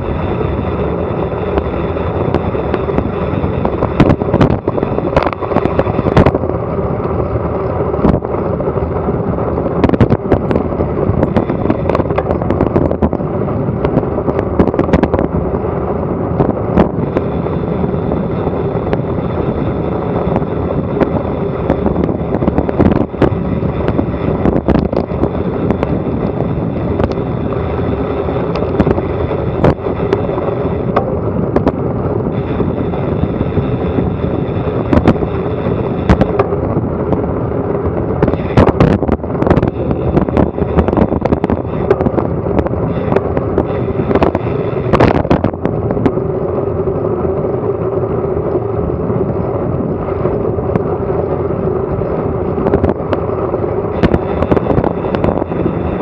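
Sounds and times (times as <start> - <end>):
bike and mount rattling: 0.0 - 56.0
wind rush on camera microphone: 0.0 - 56.0.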